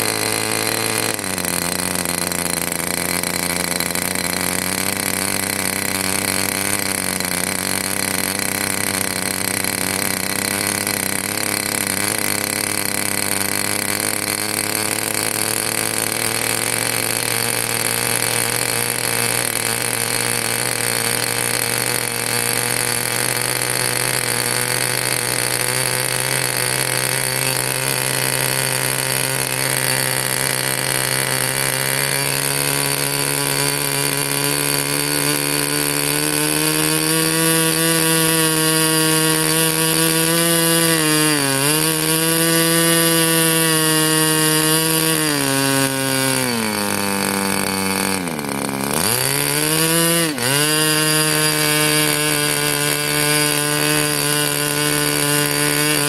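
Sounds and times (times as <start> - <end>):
model airplane engine running: 0.0 - 56.0.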